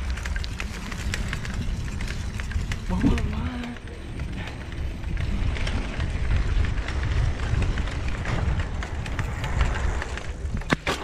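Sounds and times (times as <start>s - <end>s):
bicycle rattles and knocks: 0.0s - 11.0s
wind rumble on microphone: 0.0s - 11.0s.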